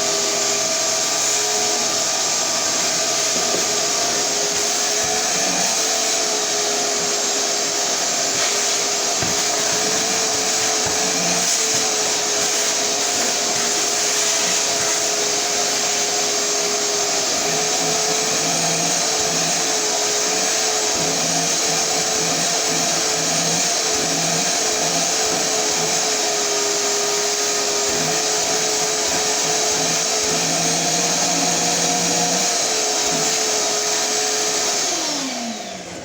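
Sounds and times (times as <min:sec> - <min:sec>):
shop vacuum running: 0:00.0 - 0:36.0.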